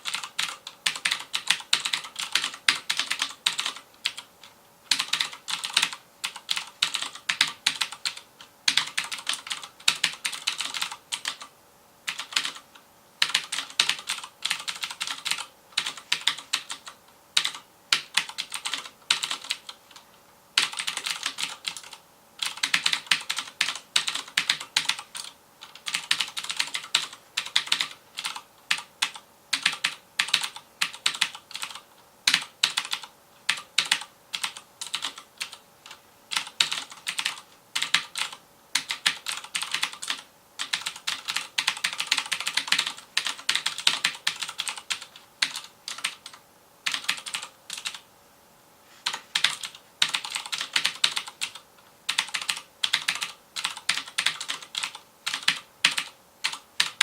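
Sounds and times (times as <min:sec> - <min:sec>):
mechanical keyboard typing: 0:00.0 - 0:04.3, 0:04.9 - 0:11.5, 0:12.1 - 0:12.6, 0:13.2 - 0:48.0, 0:49.0 - 0:57.0
faint steady hum: 0:00.0 - 0:57.0.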